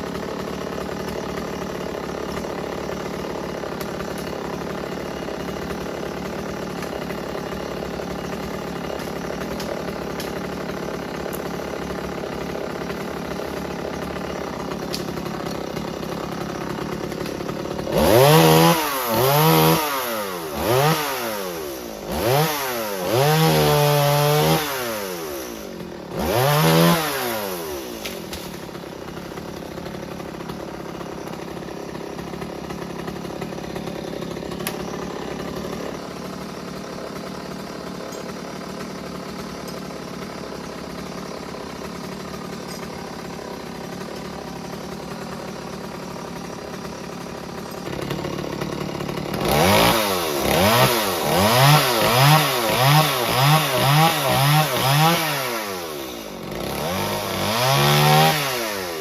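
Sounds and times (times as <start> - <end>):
chainsaw engine revving: 0.0 - 59.0
chainsaw idling: 0.0 - 59.0.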